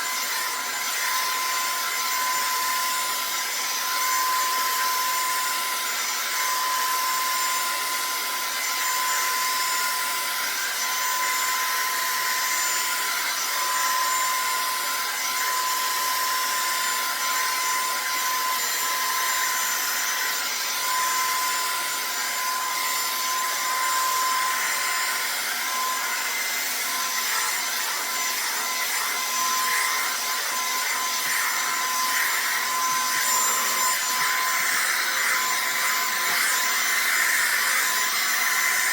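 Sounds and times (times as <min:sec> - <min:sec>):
hair dryer brush blowing: 0:00.0 - 0:38.9.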